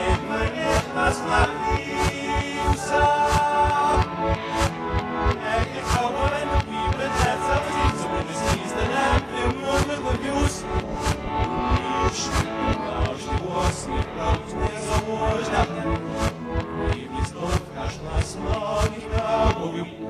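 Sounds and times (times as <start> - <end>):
electric guitar: 0.0 - 19.7
keyboard playing: 0.0 - 20.0
voices singing: 0.0 - 20.0
fast low drum beat: 0.2 - 19.6.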